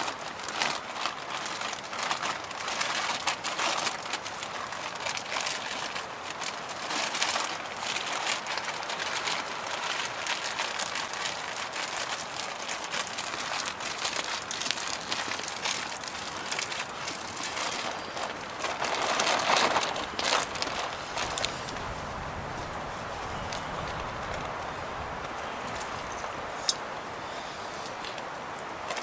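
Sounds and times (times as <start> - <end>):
plastic bag crinkling: 0.0 - 26.8, 27.9 - 29.0.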